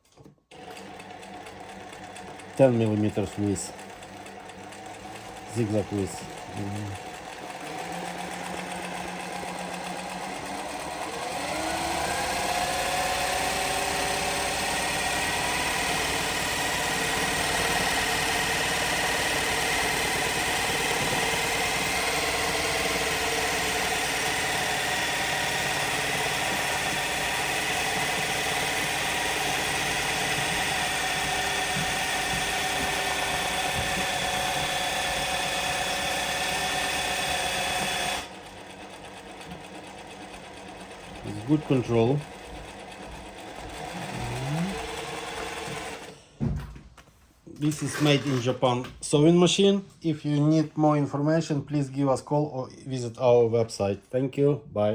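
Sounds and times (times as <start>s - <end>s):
sewing machine running: 0.5s - 46.2s.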